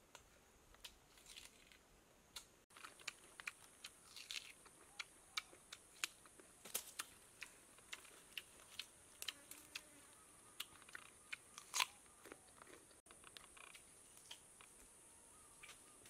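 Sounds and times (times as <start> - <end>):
crunchy fruit chewing: 0.7 - 16.0.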